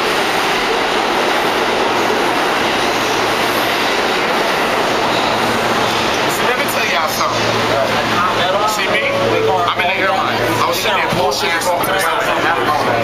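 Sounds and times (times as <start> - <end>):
subway train running: 0.0 - 13.0.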